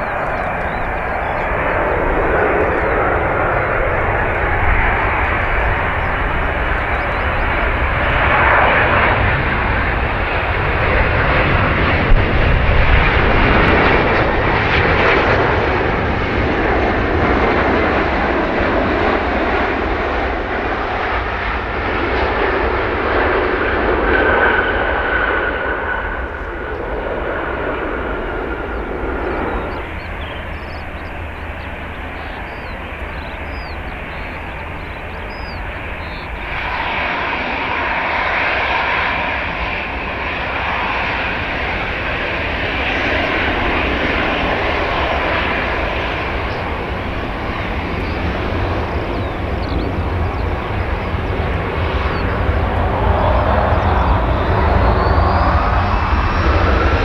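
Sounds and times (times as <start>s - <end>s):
jet engines passing: 0.0s - 57.0s.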